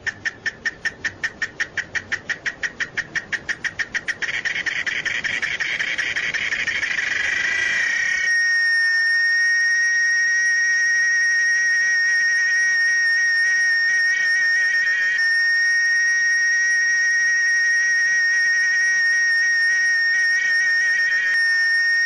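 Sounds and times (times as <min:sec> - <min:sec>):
cicada calling: 0:00.0 - 0:08.4, 0:11.5 - 0:22.0.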